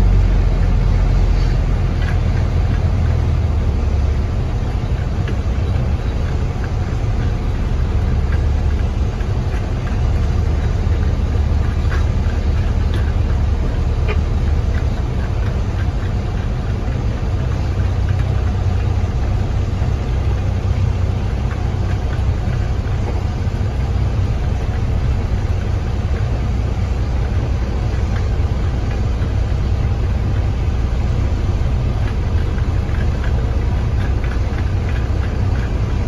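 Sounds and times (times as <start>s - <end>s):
diesel truck engine low rumble: 0.0s - 36.0s.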